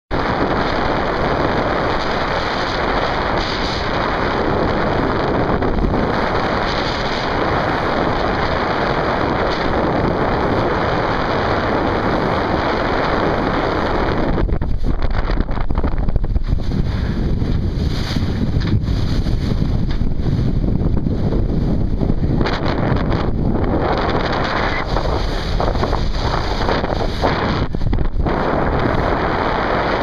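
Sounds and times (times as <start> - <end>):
water rushing along hull: 0.1 - 30.0
wind buffeting microphone: 0.1 - 30.0.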